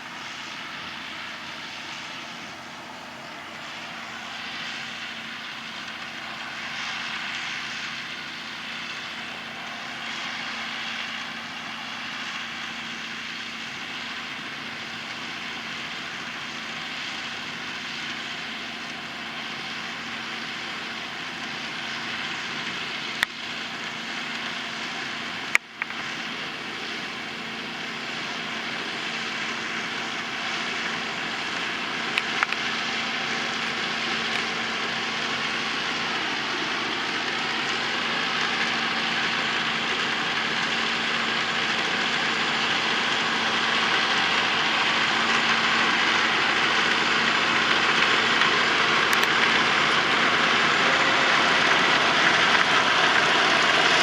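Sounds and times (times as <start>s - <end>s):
tractor and harvester machinery drone: 0.0s - 54.0s.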